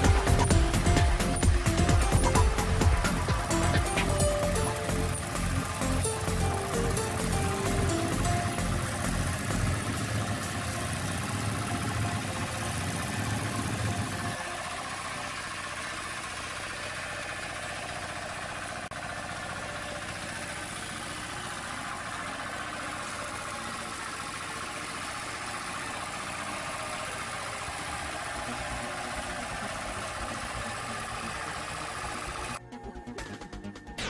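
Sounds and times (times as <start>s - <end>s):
power tiller engine running: 0.0s - 34.0s.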